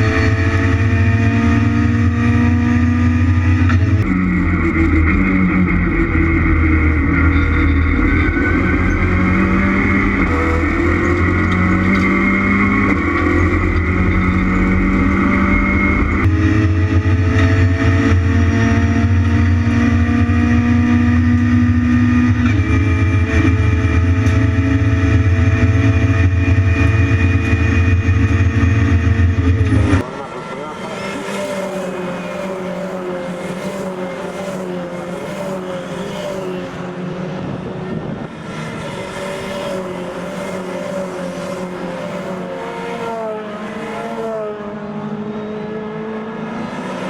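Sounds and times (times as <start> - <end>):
race car engines accelerating: 0.0 - 47.0.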